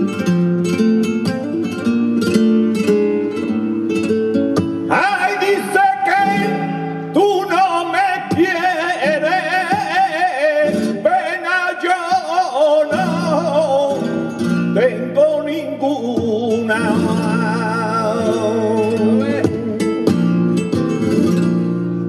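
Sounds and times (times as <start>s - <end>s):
man singing flamenco: 0.0s - 21.8s
flamenco guitar chords: 0.0s - 22.0s.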